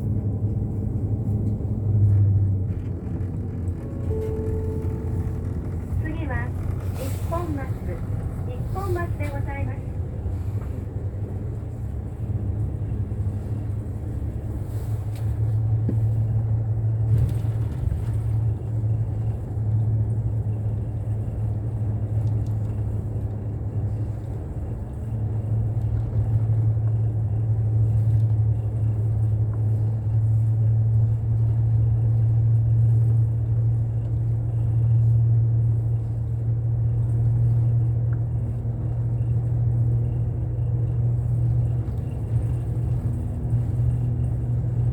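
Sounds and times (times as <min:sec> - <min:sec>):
bus engine drone: 0:00.0 - 0:44.9
road rumble: 0:00.0 - 0:44.9.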